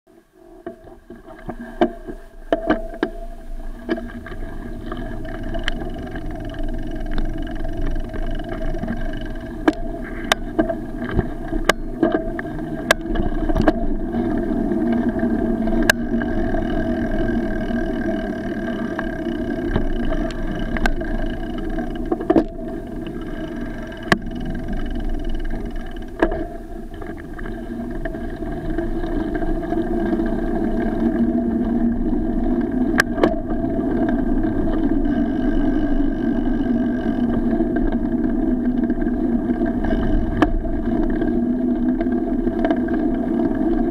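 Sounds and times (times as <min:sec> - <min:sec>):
bicycle tyre and wind rumble: 0:00.2 - 0:43.9.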